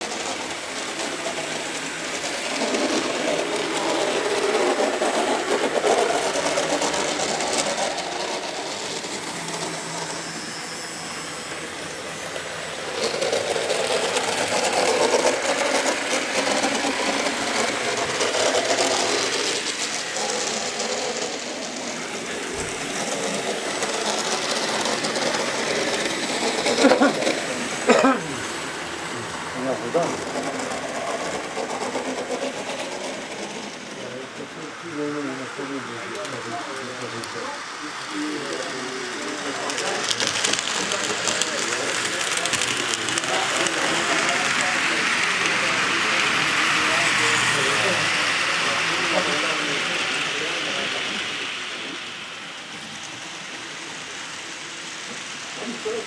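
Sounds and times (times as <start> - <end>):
model trains whirring clatter: 0.0 - 56.0.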